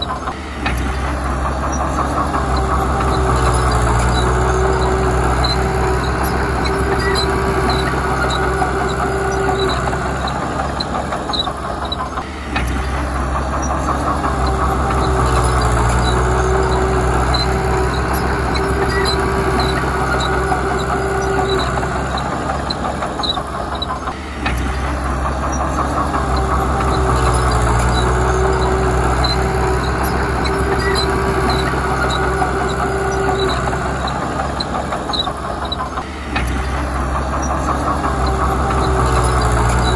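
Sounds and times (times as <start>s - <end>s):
bulldozer diesel engine working: 0.0s - 39.9s
steady whine: 0.0s - 39.9s.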